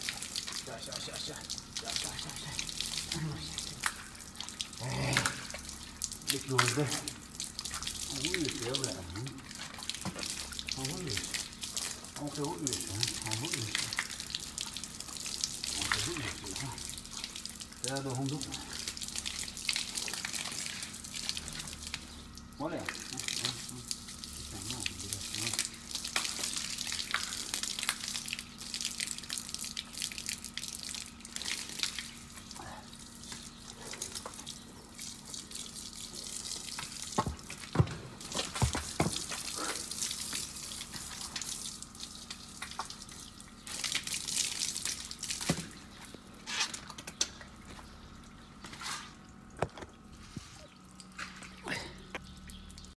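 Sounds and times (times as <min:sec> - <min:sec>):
garden hose water spraying: 0:00.0 - 0:53.0
water dripping: 0:00.0 - 0:53.0.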